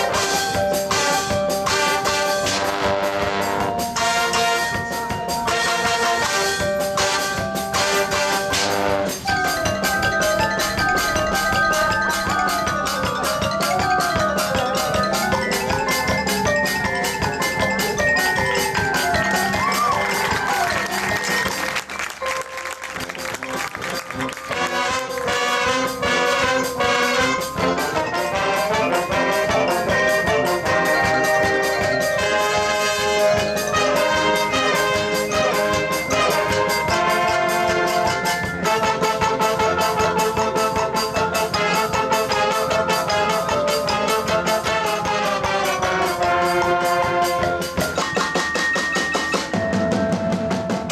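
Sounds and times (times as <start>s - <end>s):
brass melody: 0.0s - 50.9s
mallet percussion: 0.0s - 50.9s
marching percussion: 0.0s - 50.9s.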